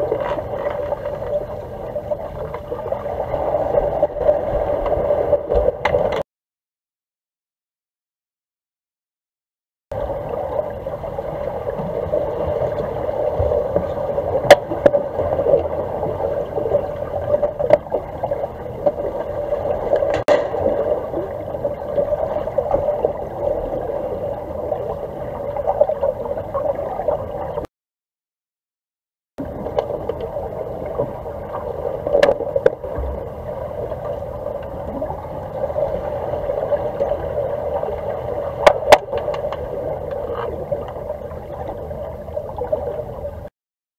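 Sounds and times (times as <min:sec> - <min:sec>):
muffled underwater churning: 0:00.0 - 0:06.2, 0:09.9 - 0:27.7, 0:29.4 - 0:43.5.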